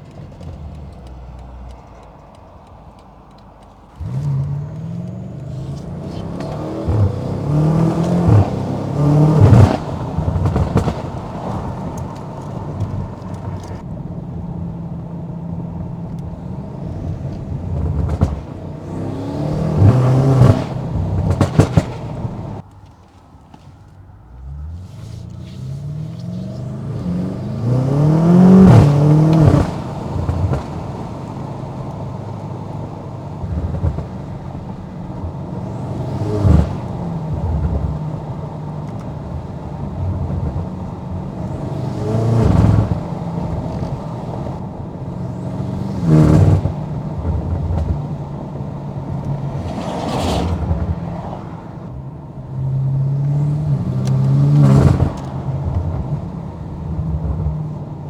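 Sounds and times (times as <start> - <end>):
car engine accelerating hard: 0.0 - 22.6, 24.2 - 58.0.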